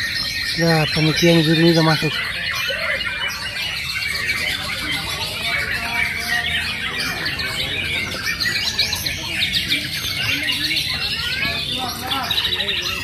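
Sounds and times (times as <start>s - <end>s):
birds singing in chorus: 0.0s - 13.0s.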